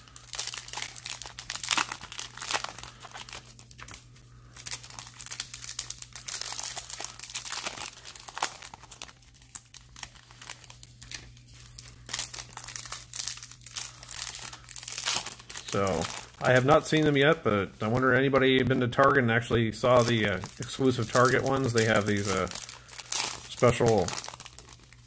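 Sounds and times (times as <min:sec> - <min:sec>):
foil wrapper crinkling and tearing: 0:00.0 - 0:25.0.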